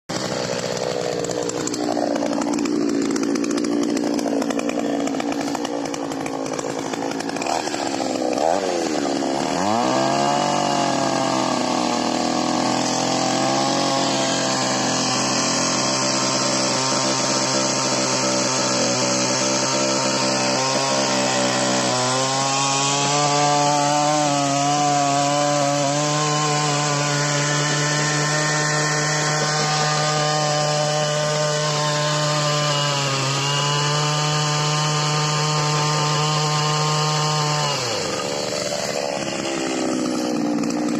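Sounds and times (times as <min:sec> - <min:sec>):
two-stroke auger engine revving: 0:00.1 - 0:40.9.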